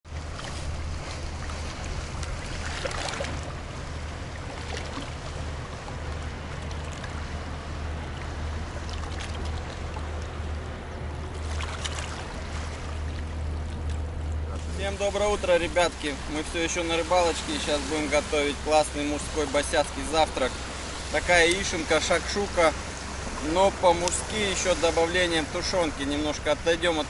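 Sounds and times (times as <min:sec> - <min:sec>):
river cruise ship engine drone: 0:00.0 - 0:27.0
river water washing: 0:00.1 - 0:27.0
waves lapping against rocky bank: 0:00.1 - 0:27.0.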